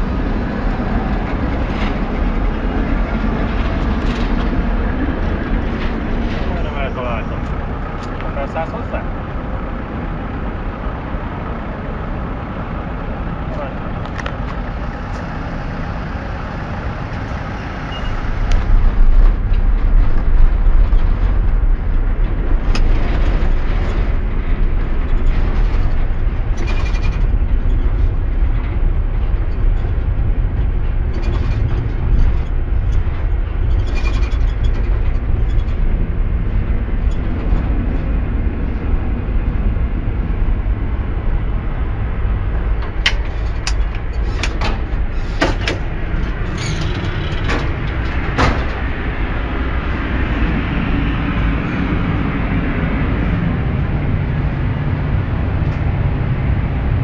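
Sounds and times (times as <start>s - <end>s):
tram rumbling on track: 0.0s - 57.0s.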